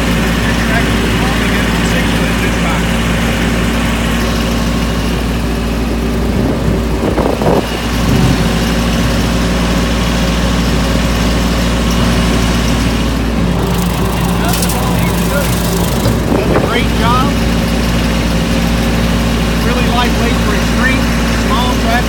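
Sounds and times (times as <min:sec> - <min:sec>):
rotary cutter cutting grass: 0:00.0 - 0:22.0
tractor diesel engine running: 0:00.0 - 0:22.0.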